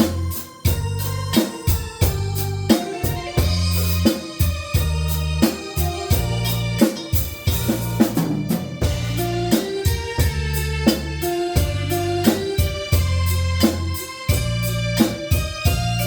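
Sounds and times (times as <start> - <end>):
sustained low bass notes: 0.0 - 1.4, 2.0 - 4.1, 4.7 - 6.8, 7.5 - 16.0
drum kit beat with snare: 0.0 - 16.0
keyboard or organ chords: 0.0 - 16.0.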